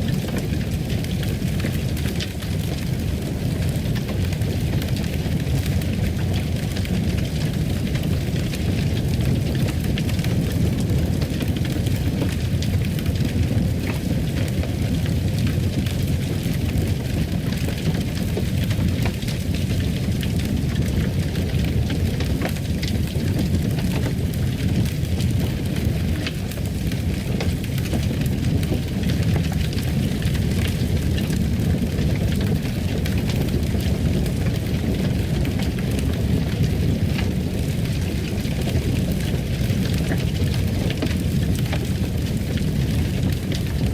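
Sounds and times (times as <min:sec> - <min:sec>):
fire burning rumble: 0:00.0 - 0:43.9
fire crackles and pops: 0:00.0 - 0:43.9.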